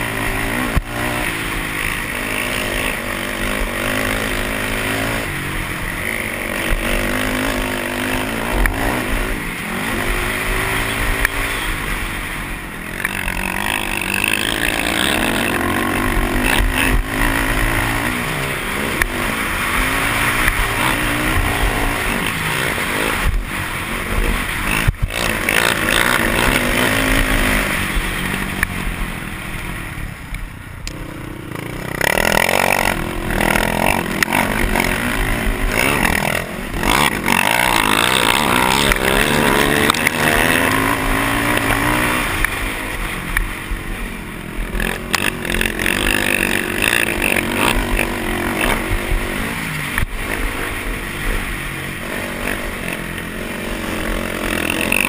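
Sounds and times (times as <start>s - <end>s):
quad engine revving: 0.0s - 29.6s, 30.8s - 55.0s.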